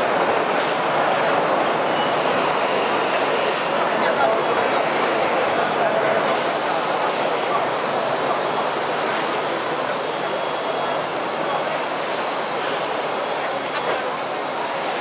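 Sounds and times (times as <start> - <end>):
crowd chatter: 0.0 - 15.0.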